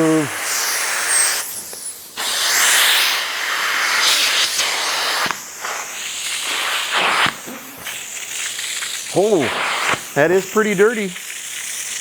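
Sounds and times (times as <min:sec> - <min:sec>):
cleaning tool spray and vacuum hiss: 0:00.0 - 0:12.0.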